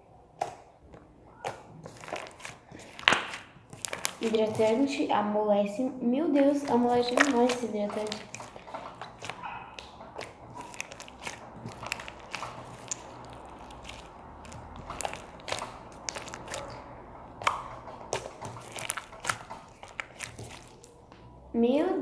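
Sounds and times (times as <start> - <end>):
slime squelching and clicking: 0.4 - 5.1, 6.4 - 21.3
slime popping: 1.3 - 5.0, 6.5 - 21.0.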